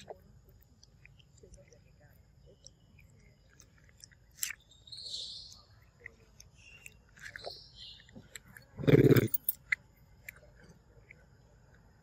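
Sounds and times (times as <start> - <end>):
monkey chewing fruit: 0.0 - 11.9.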